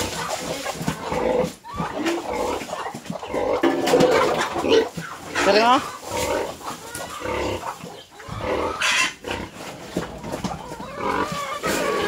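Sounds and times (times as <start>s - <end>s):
pigs grunting: 0.0s - 12.0s.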